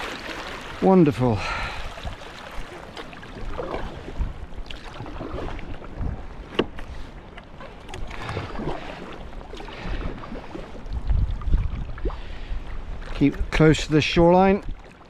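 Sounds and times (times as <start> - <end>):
paddle strokes in water: 0.0 - 15.0
water splashing along hull: 0.0 - 15.0.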